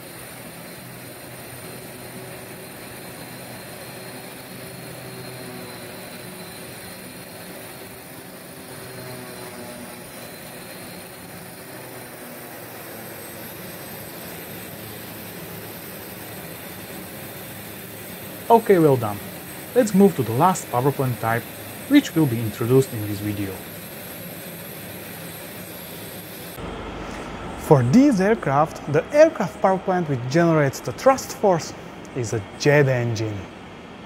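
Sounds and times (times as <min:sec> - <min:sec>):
piston aircraft engine running: 0:00.0 - 0:34.0.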